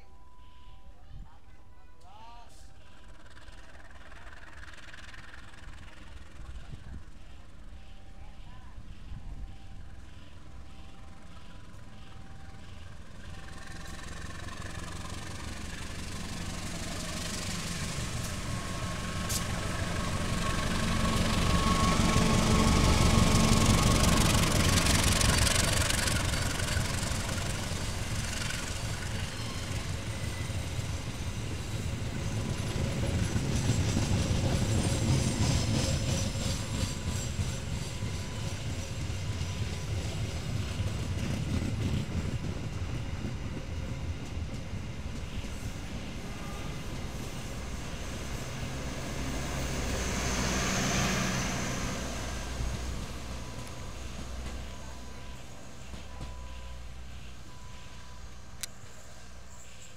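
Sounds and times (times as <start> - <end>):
diesel locomotive engine: 0.0 - 59.9
generator hum: 2.0 - 59.9.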